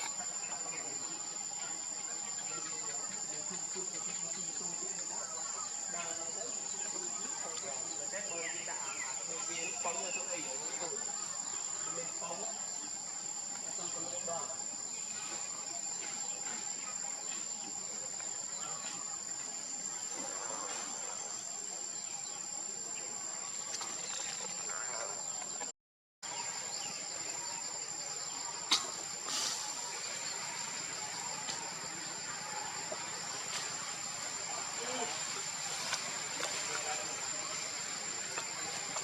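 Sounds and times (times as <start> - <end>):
insect chorus whine and buzz: 0.0 - 39.0.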